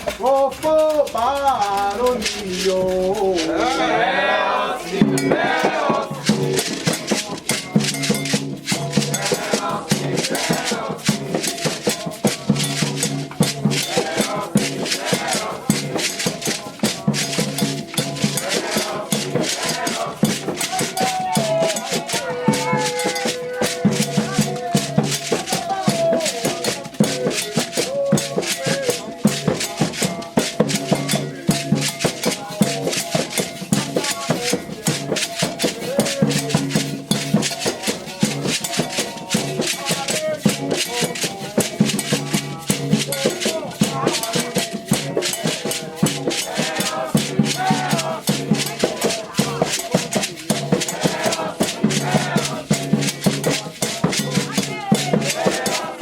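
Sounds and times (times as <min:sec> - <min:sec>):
drums: 0:00.0 - 0:03.9, 0:04.8 - 0:56.0
chanted singing: 0:00.0 - 0:56.0
shaken rattle: 0:00.0 - 0:56.0.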